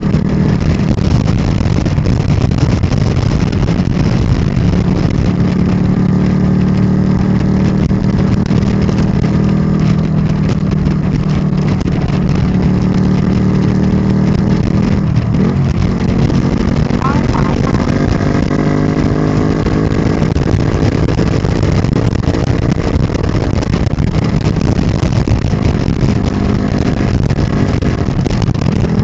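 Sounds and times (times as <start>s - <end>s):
motorcycle engine drone: 0.0s - 29.0s.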